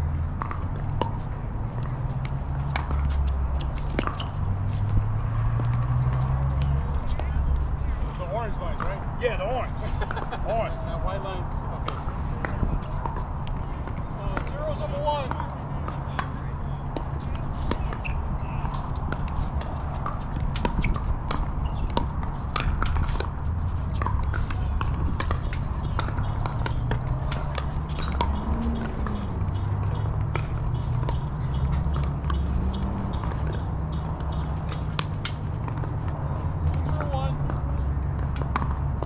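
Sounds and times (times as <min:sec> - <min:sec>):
ball bouncing on hard court: 0:00.4 - 0:07.4, 0:11.8 - 0:39.0.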